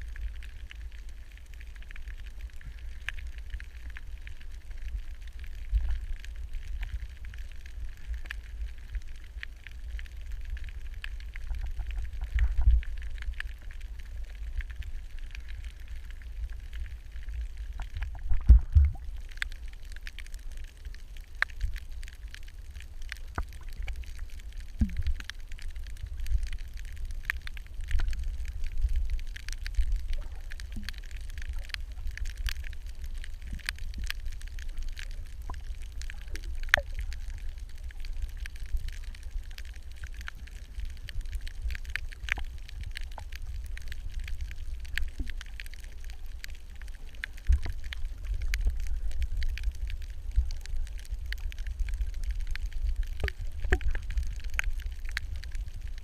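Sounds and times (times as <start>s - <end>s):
faint crackling and clicks: 0.0s - 56.0s
underwater rumble of moving water: 0.0s - 56.0s.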